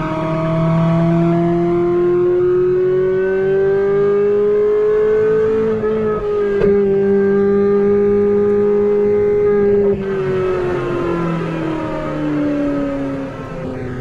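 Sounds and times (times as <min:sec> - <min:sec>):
sports car engine accelerating: 0:00.0 - 0:14.0.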